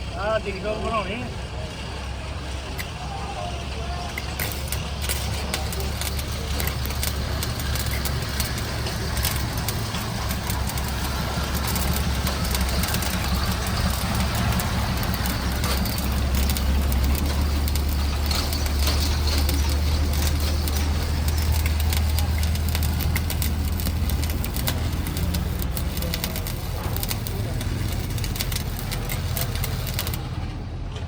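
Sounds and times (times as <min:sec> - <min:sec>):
motor humming: 0:03.7 - 0:30.5
scattered clicks and knocks: 0:03.7 - 0:31.0.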